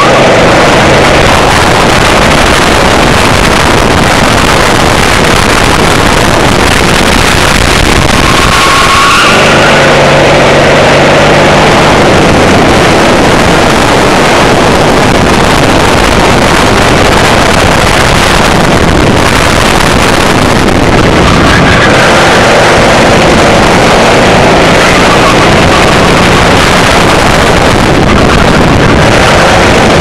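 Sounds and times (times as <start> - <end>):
kart engine running hard: 0.0 - 30.0
wind noise on microphone: 0.0 - 30.0.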